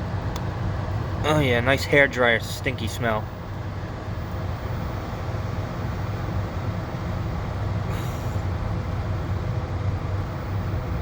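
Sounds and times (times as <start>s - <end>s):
air conditioner fan hum: 0.0s - 11.0s.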